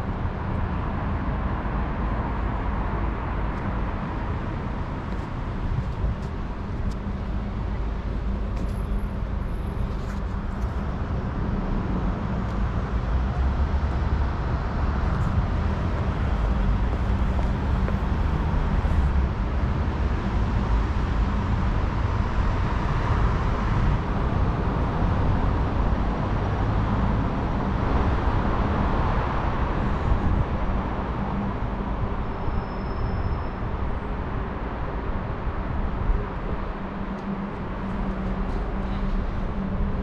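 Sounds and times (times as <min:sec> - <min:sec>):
city traffic rumble: 0:00.0 - 0:40.0.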